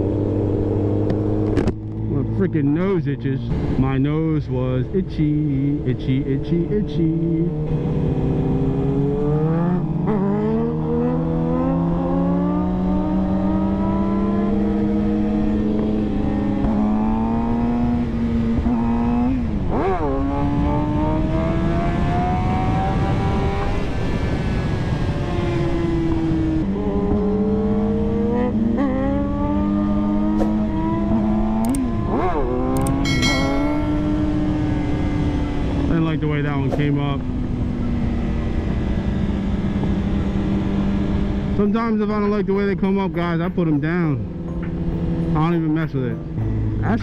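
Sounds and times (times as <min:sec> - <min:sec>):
motorcycle engine revving through gears: 0:00.0 - 0:02.9, 0:05.5 - 0:42.2, 0:44.2 - 0:47.0.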